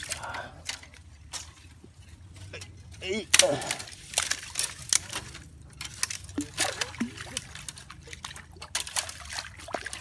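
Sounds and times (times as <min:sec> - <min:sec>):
twigs and leaves crackling underfoot: 0:00.0 - 0:10.0
water splashing: 0:00.0 - 0:10.0
water trickling: 0:00.0 - 0:10.0.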